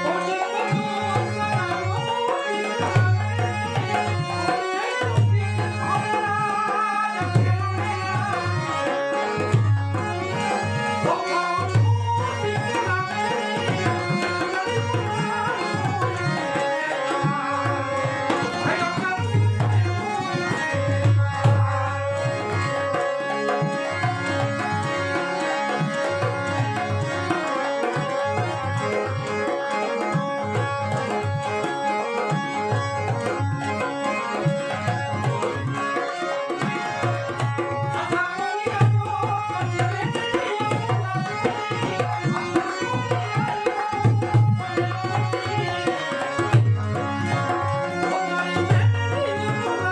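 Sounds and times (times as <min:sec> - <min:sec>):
sustained melodic accompaniment: 0:00.0 - 0:49.9.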